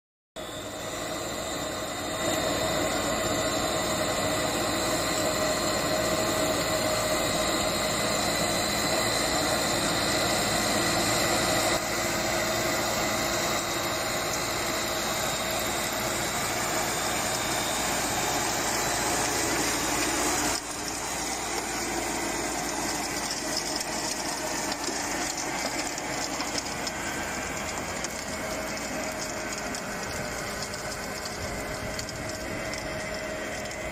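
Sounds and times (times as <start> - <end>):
crawler tractor engine running: 0.4 - 33.9.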